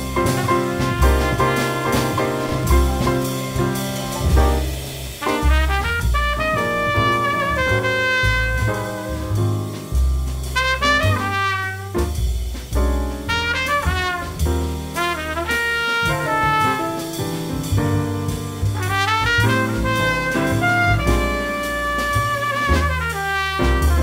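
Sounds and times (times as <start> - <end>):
drums: 0.0 - 24.0
piano: 0.0 - 24.0
plucked upright bass: 0.0 - 24.0
trumpet playing quick runs: 0.2 - 9.4, 10.6 - 12.0, 13.3 - 14.4, 15.0 - 17.2, 18.8 - 24.0.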